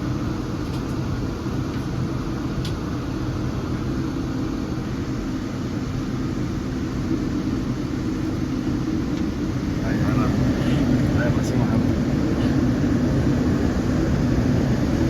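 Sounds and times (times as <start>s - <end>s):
airliner cabin engine noise: 0.0s - 15.0s.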